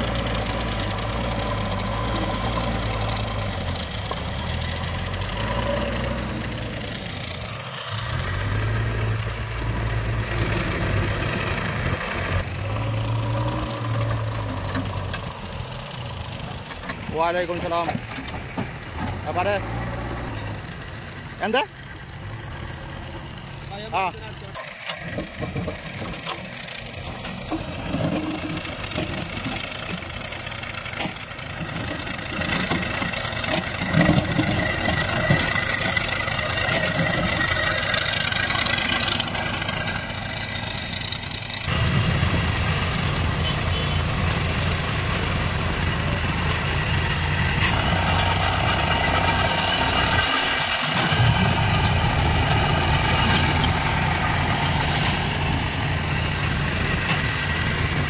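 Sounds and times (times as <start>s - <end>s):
low engine note: 0.0s - 58.0s
machinery engines running: 0.0s - 58.0s.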